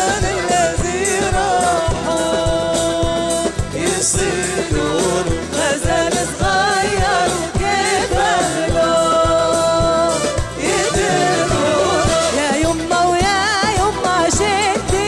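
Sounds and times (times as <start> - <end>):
person singing folk song: 0.0 - 15.0.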